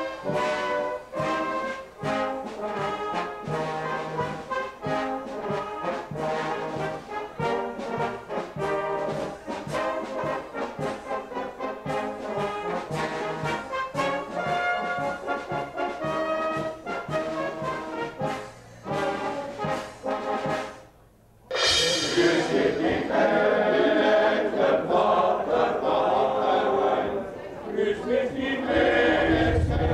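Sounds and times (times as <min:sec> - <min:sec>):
brass band playing: 0:00.0 - 0:29.9.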